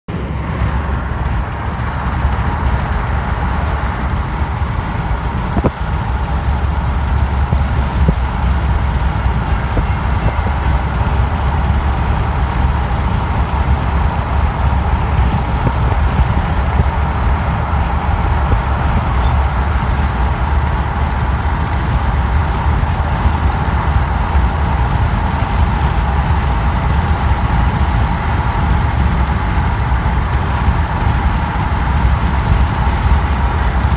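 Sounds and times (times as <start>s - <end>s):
car road and wind noise: 0.1s - 33.9s.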